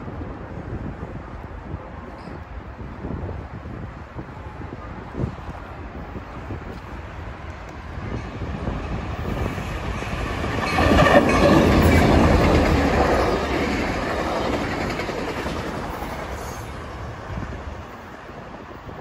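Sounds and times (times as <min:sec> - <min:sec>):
train passing with rushing rumble: 0:00.0 - 0:19.0.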